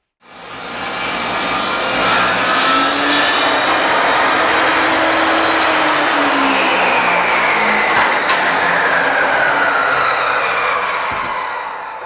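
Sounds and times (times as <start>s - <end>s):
table saw motor whirring: 0.2s - 12.0s.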